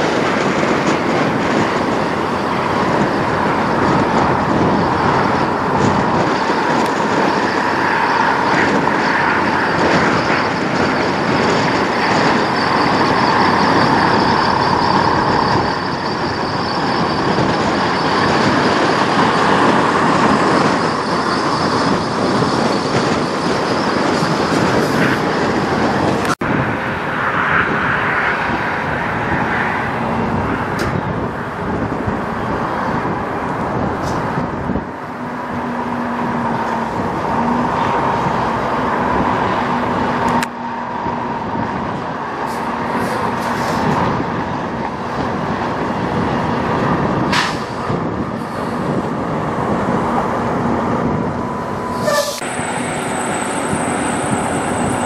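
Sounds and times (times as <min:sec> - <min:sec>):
truck diesel engines: 0:00.0 - 0:55.0.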